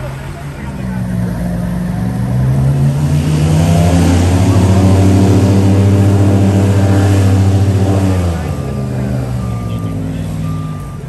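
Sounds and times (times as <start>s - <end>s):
large vehicle engine droning: 0.0s - 11.0s.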